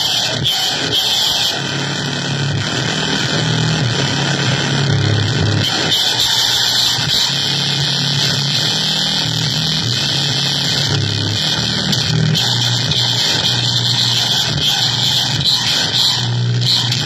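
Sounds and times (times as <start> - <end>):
harsh electronic noise music: 0.0 - 17.0.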